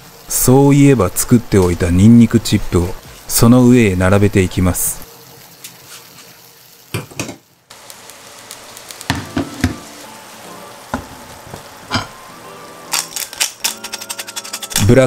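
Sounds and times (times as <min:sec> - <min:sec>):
food sizzling on hot plate: 0:00.0 - 0:15.0.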